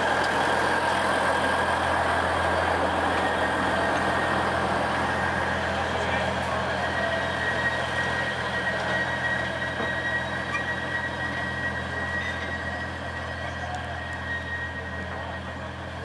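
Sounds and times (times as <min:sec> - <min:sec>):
thin steady whine: 0:00.0 - 0:16.0
train engine humming: 0:00.0 - 0:16.0.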